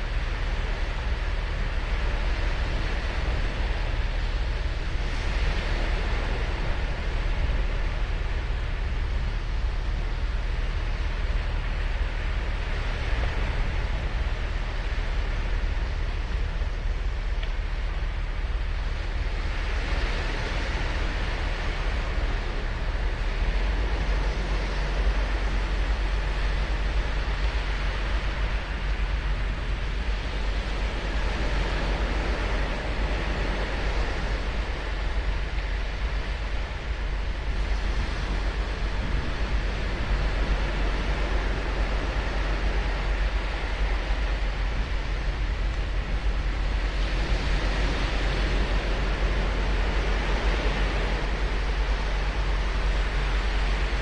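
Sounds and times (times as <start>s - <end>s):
waves breaking on sandy beach: 0.0s - 54.0s
wind on microphone: 0.0s - 54.0s.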